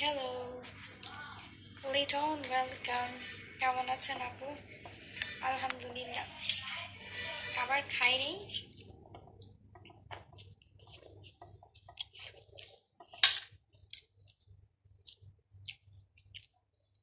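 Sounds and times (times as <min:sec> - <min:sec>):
person chewing food: 0:03.2 - 0:17.0.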